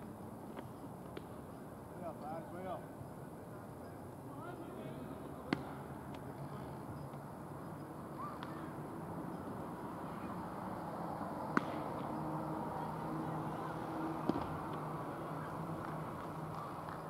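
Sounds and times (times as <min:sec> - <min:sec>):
ballfield background noise: 0:00.0 - 0:17.0.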